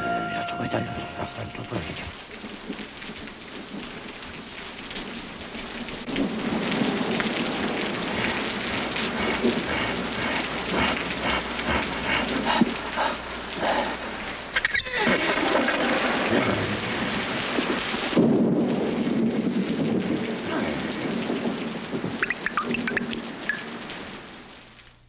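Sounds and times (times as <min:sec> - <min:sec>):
thunder rumbling: 0:00.0 - 0:24.7
heavy rain: 0:00.0 - 0:25.0.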